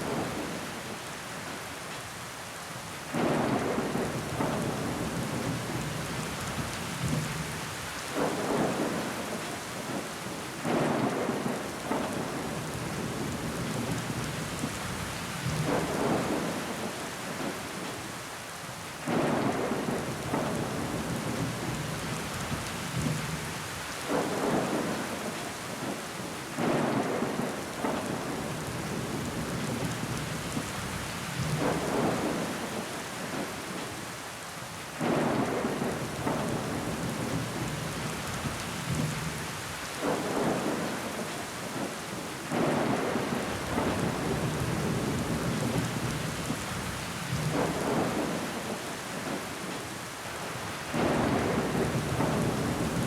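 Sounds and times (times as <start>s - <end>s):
rain against window pane: 0.0s - 2.0s, 3.1s - 53.0s.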